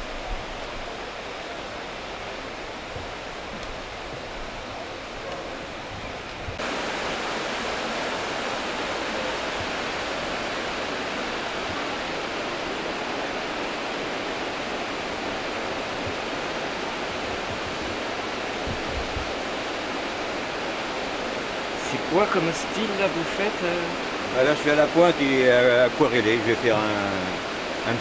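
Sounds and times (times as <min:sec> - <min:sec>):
water rushing over a weir: 0:00.0 - 0:28.0.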